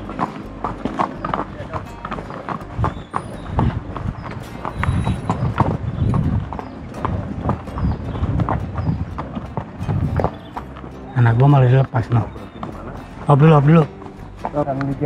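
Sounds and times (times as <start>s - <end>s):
horses' hooves clip-clopping on dirt: 0.0s - 15.0s.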